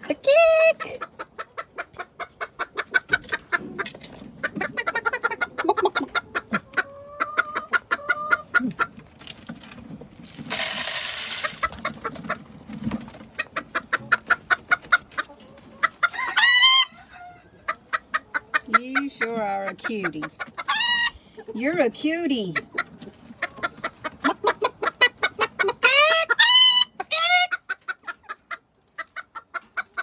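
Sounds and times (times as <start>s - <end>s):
drawn-out chicken call: 0.0s - 9.1s, 10.5s - 21.8s, 22.5s - 30.0s
chickens clucking: 0.0s - 30.0s.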